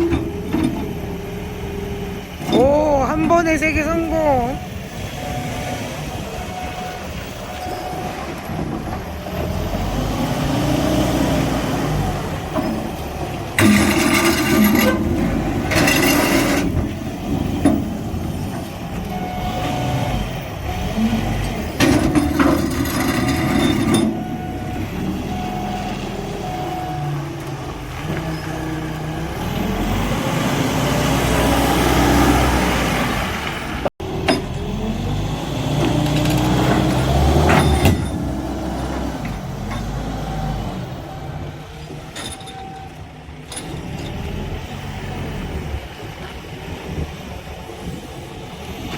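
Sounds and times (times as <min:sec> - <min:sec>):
diesel engine revving: 0:00.0 - 0:48.9.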